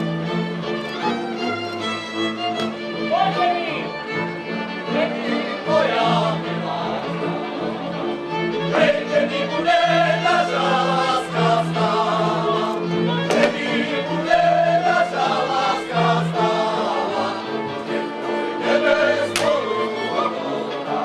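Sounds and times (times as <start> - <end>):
folk string band: 0.0 - 21.0
group singing folk song: 4.1 - 21.0.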